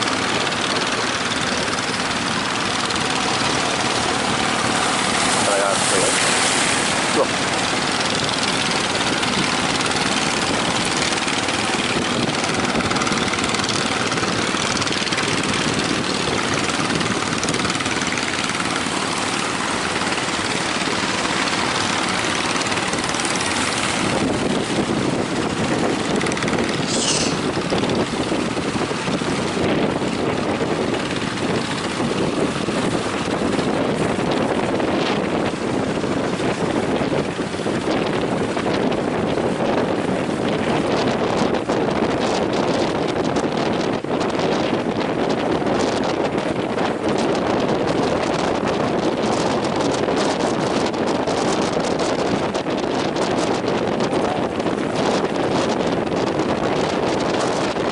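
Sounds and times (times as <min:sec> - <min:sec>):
strong wind buffeting microphone: 0:00.0 - 0:57.9
waves breaking: 0:00.0 - 0:57.9.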